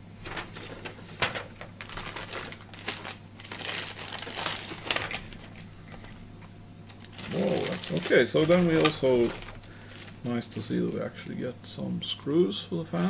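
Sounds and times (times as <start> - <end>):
plastic and paper crinkling: 0.2 - 11.4.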